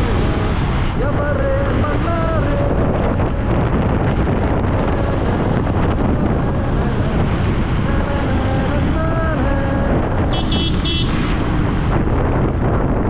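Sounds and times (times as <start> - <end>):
motorcycle and road rumble: 0.0 - 13.0
wind roaring over microphone: 0.0 - 13.0.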